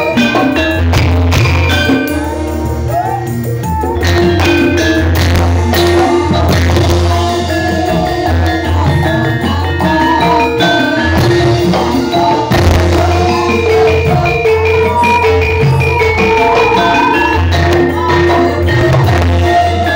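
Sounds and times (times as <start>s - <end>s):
melodic music with deep bass: 0.0s - 19.9s.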